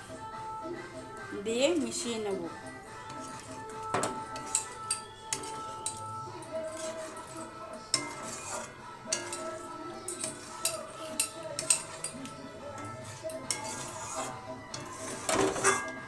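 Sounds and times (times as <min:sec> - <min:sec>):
utensil stirring in pot: 0:02.7 - 0:16.0
utensil clinking against pan: 0:03.0 - 0:16.0.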